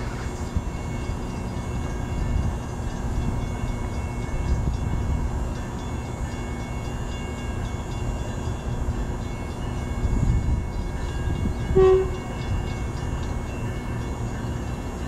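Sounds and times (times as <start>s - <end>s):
train rumbling: 0.0s - 15.0s
steady held tones: 0.6s - 15.0s.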